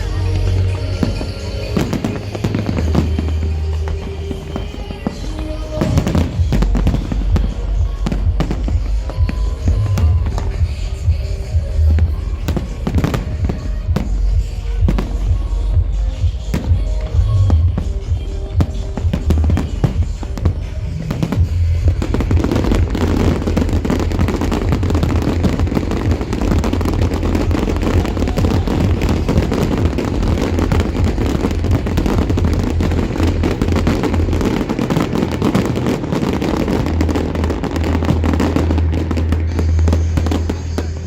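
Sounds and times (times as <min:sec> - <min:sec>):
dance music with heavy bass: 0:00.0 - 0:41.0
fireworks crackling and popping: 0:00.0 - 0:41.0.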